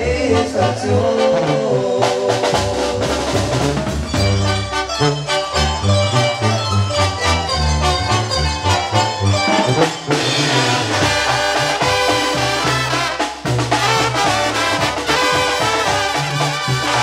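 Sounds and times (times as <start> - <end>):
brass band playing: 0.0 - 17.0
tuba bass: 0.0 - 17.0.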